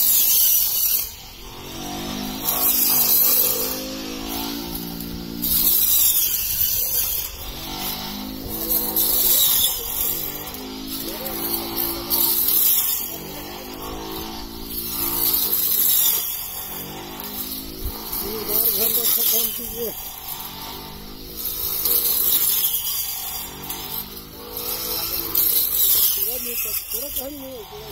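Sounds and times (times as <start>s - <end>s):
blade swishing through wheat stalks: 0.0s - 27.8s
electric motor whining: 0.0s - 27.9s.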